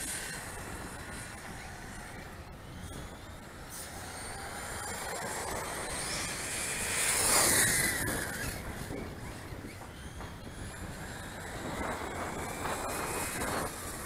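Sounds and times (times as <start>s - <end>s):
model car motor whine: 0.0s - 14.0s.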